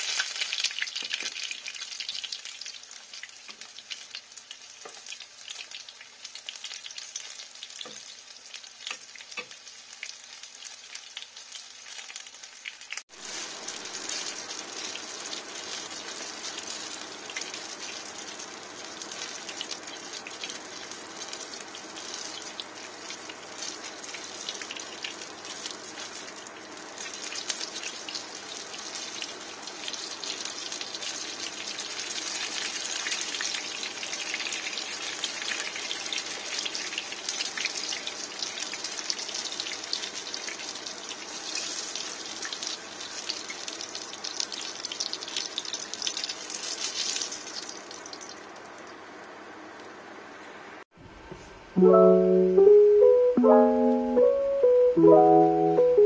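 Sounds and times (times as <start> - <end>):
banana slices sizzling in oil: 0.0 - 50.3.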